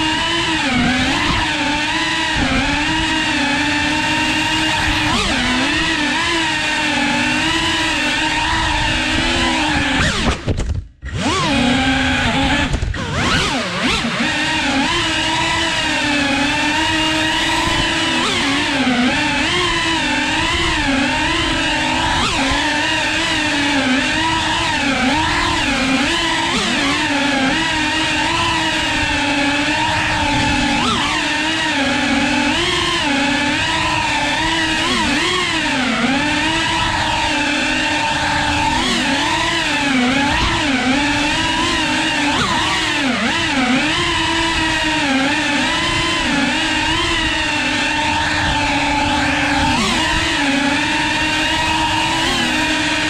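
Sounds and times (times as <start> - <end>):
quadcopter motors whining: 0.0 - 53.0.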